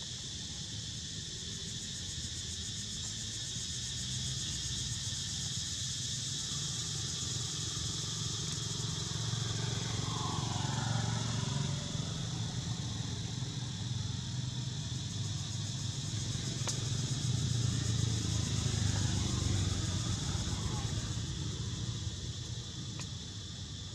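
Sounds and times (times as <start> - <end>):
insects buzzing: 0.0 - 23.9.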